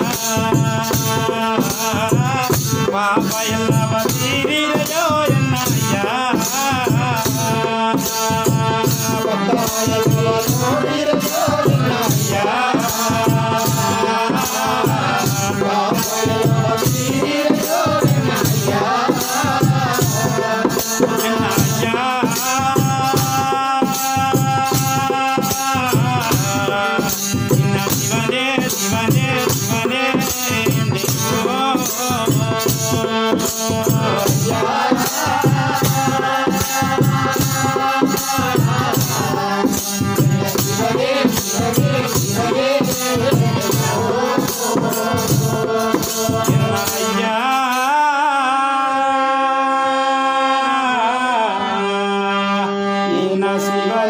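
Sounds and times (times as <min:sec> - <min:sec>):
percussion beat: 0:00.0 - 0:48.5
person singing devotional song: 0:00.0 - 0:54.0.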